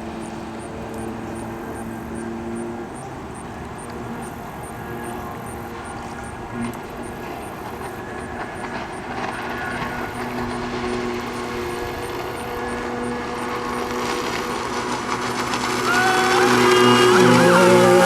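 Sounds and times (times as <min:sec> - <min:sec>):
jet ski engine running: 0:00.0 - 0:18.0.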